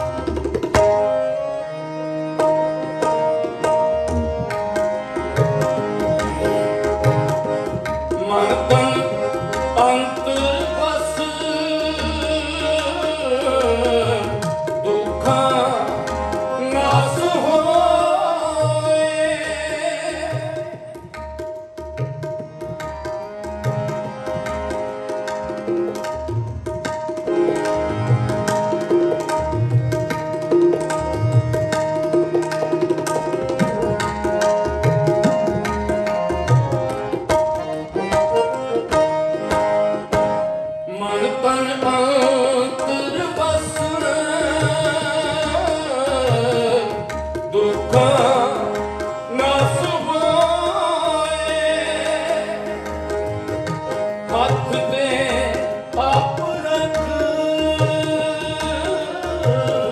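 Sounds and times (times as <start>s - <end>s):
harmoniums holding chords: 0.0s - 59.9s
tabla rhythm: 0.0s - 59.9s.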